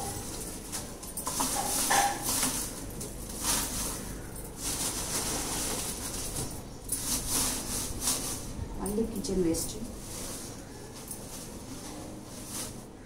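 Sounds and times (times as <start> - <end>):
dry garden waste rustling: 0.0 - 13.0.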